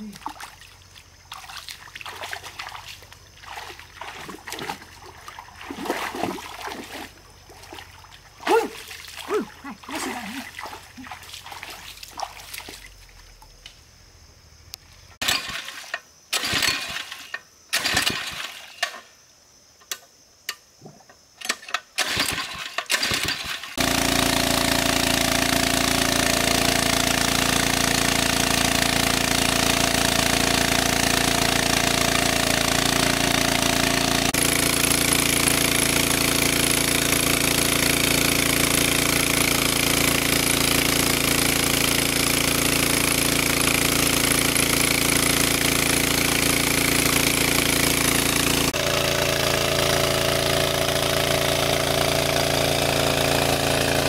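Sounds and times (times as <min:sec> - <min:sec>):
petrol engine water pump running: 0:00.0 - 0:13.0, 0:15.2 - 0:18.6, 0:21.4 - 0:54.0.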